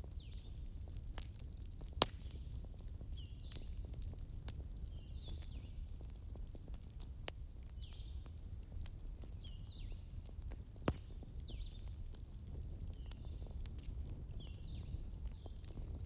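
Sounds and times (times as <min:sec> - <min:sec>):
bonfire crackling and popping: 0:00.0 - 0:16.0
low rumble of flames: 0:00.0 - 0:16.0.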